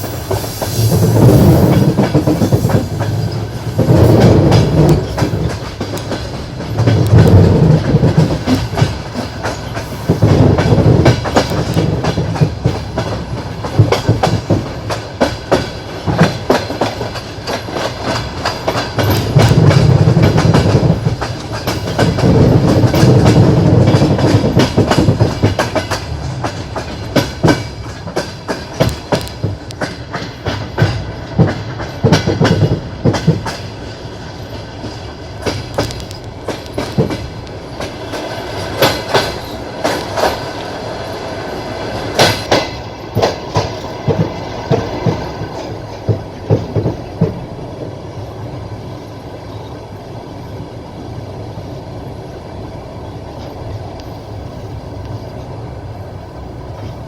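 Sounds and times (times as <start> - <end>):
train wheels clattering: 0.0 - 48.4
low train rumble: 0.0 - 57.0.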